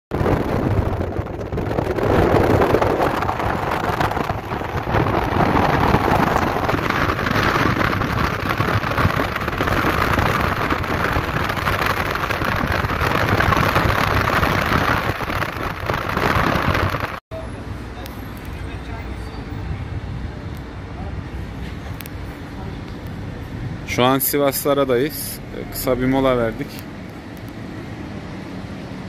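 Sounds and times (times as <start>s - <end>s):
car road and wind noise: 0.1s - 29.0s.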